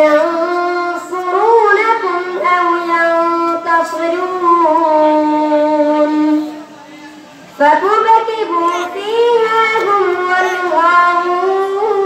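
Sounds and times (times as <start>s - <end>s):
boy chanting into a microphone: 0.0s - 12.0s.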